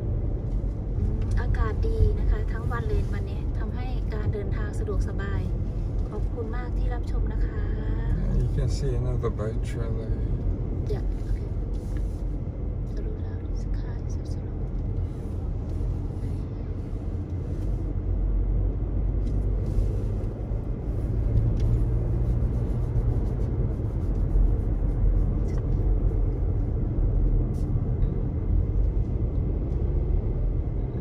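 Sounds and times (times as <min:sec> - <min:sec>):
car tyres and engine rumble: 0:00.0 - 0:31.0.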